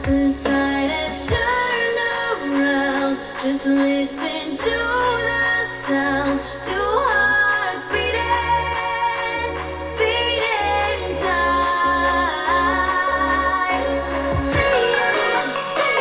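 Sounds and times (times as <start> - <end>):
electronic pop song: 0.0 - 16.0
heavy bass line: 0.0 - 16.0
woman singing: 0.0 - 16.0.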